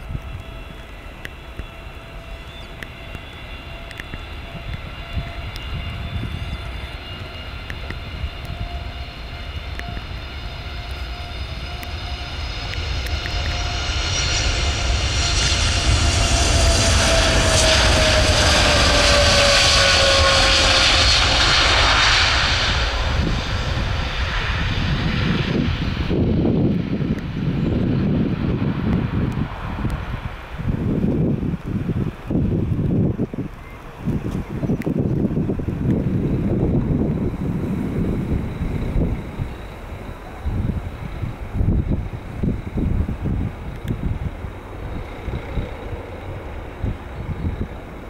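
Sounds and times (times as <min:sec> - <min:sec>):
jet engines whining at takeoff: 0:00.0 - 0:48.0
low rumble: 0:00.0 - 0:48.0.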